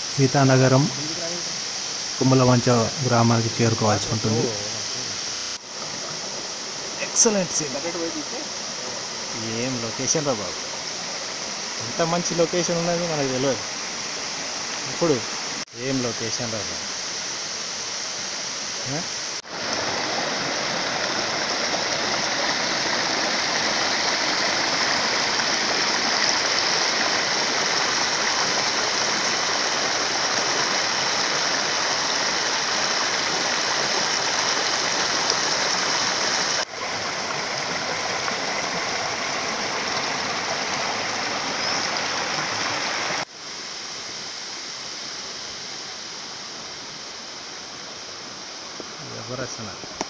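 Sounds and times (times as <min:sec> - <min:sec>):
stream splashing over rocks: 0:00.0 - 0:43.4.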